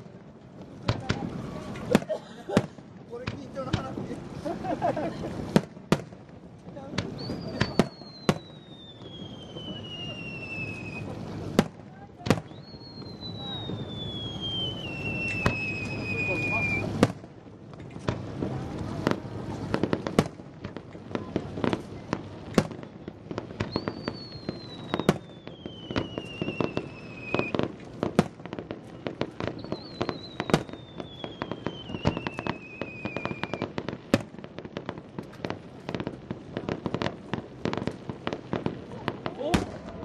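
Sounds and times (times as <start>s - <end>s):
fireworks bangs and crackling: 0.0s - 40.0s
falling firework whistles: 6.9s - 17.2s, 17.8s - 40.0s.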